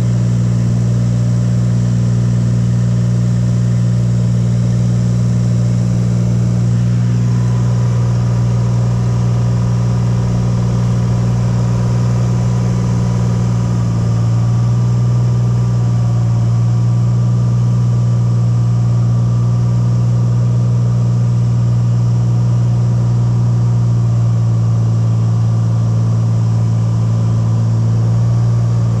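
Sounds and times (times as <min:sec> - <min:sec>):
propeller plane engine drone in cabin: 0:00.0 - 0:29.0.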